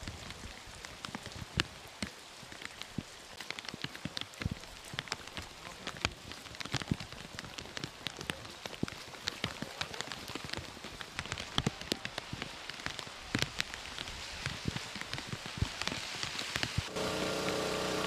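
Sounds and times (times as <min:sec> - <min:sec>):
rain falling on a wet street: 0:00.0 - 0:18.0.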